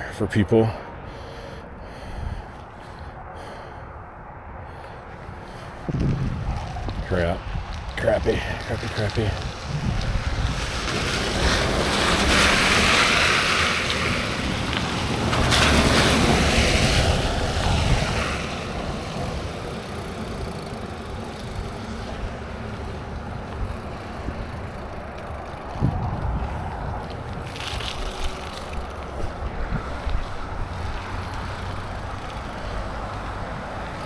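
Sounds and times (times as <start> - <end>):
wind buffeting microphone: 3.9 - 20.0, 21.0 - 34.0.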